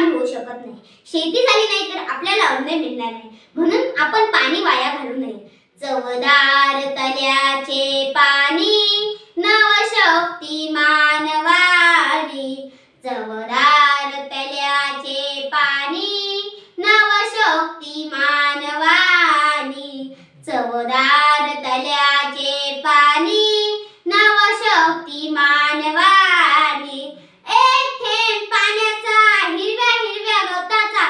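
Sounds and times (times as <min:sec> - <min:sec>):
girl singing unaccompanied: 0:00.0 - 0:31.0.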